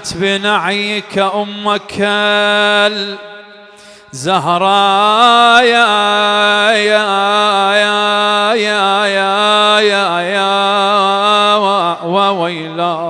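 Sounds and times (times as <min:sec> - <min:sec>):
man chanting a lament: 0:00.0 - 0:13.0.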